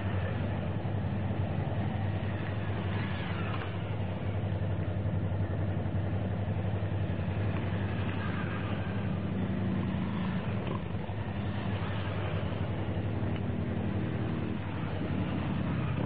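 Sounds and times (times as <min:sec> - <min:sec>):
motorcycle engines passing by: 0:00.0 - 0:16.0.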